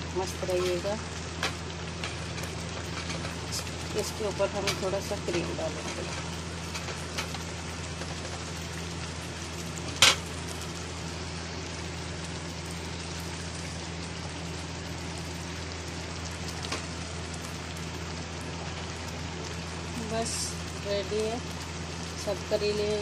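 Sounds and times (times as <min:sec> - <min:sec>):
gravy simmering and sizzling: 0:00.0 - 0:23.0.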